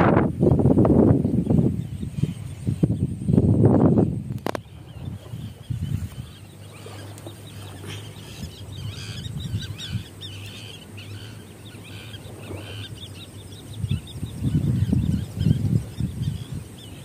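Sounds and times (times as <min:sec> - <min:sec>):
wind rumble on microphone: 0:00.0 - 0:17.0
birds chirping: 0:00.1 - 0:17.0.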